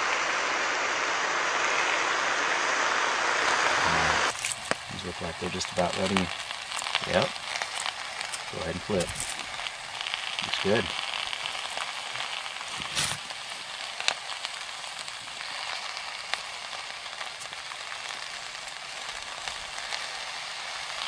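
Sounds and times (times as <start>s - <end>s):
food sizzling in a skillet: 0.0s - 21.0s.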